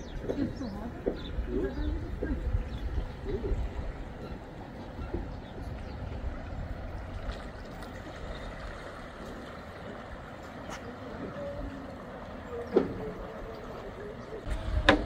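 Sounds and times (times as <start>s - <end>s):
outdoor background rumble and hiss: 0.0s - 15.0s.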